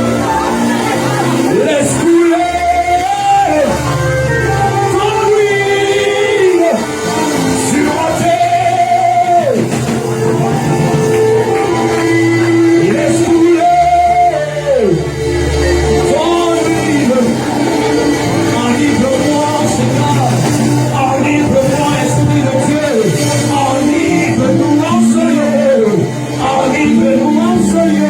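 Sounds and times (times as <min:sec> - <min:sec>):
band playing with bass: 0:00.0 - 0:28.0
person singing long notes: 0:00.0 - 0:28.0.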